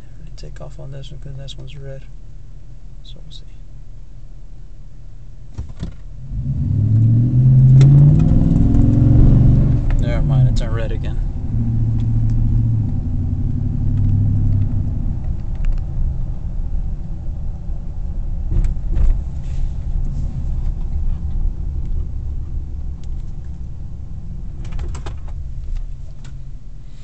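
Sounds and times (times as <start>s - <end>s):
engine idling low rumble: 0.0s - 27.0s.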